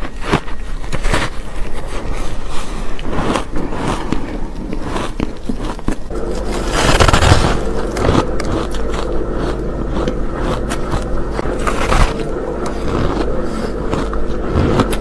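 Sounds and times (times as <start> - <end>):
crunching into frozen cake: 0.0 - 15.0.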